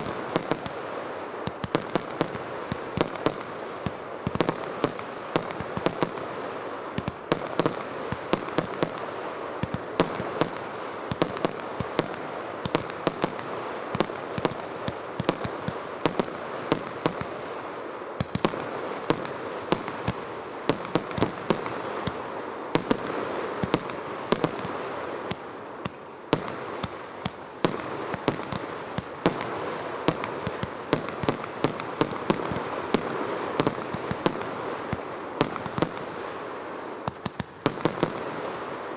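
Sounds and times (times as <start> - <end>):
continuous hiss: 0.0 - 38.9
fireworks bangs and pops: 0.0 - 38.9.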